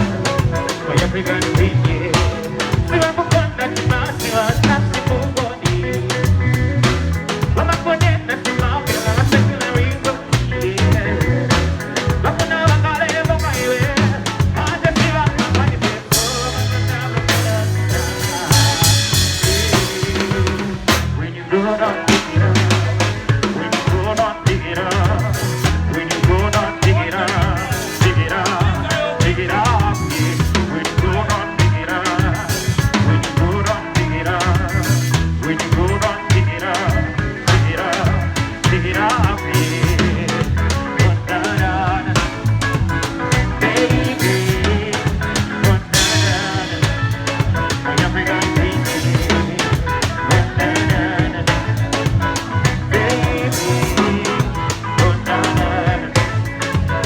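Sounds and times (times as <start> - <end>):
bass drum beat: 0.0 - 21.2, 22.1 - 57.0
live band playing upbeat song: 0.0 - 57.0.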